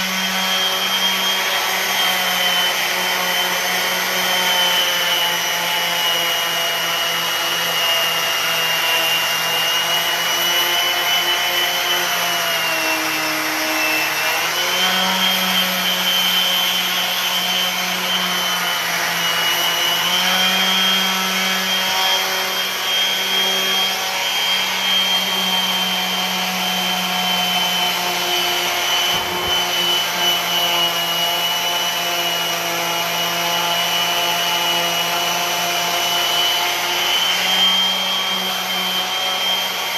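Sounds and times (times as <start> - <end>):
electric sander motor: 0.0 - 39.9.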